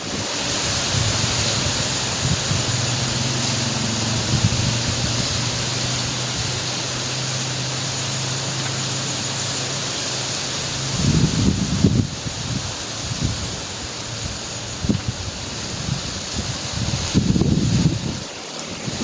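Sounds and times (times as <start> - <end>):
wind buffeting microphone: 0.0 - 9.2, 10.6 - 19.0
breeze rustling palm fronds: 0.0 - 19.0.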